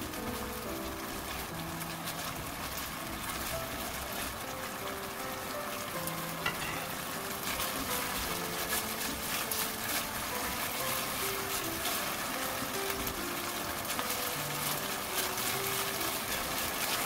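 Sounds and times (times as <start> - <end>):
sauce sizzling in a pan: 0.0 - 17.0
spatula stirring and scraping: 0.0 - 17.0.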